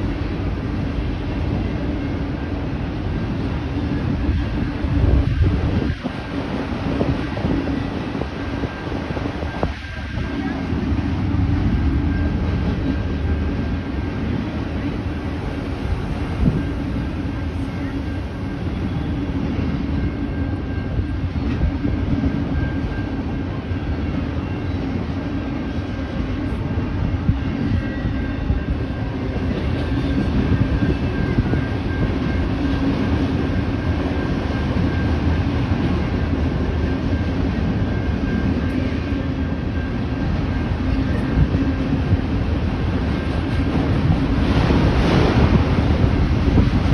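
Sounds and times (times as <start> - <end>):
freight train rumbling past: 0.0 - 46.9.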